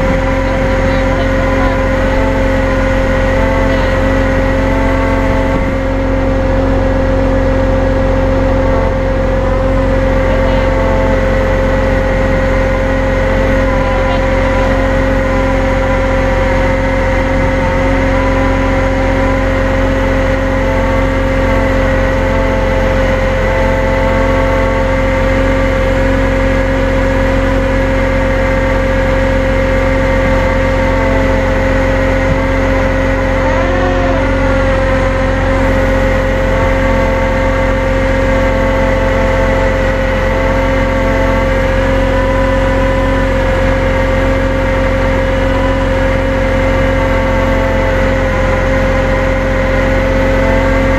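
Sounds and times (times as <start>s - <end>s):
truck engine running: 0.0s - 50.9s
winch high whine: 0.0s - 50.9s.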